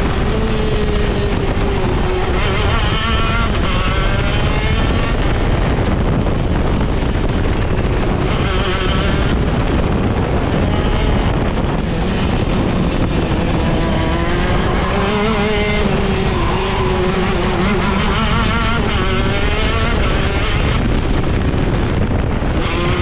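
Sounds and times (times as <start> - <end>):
kart engine revving: 0.0 - 23.0
steady rush of noise: 0.0 - 23.0.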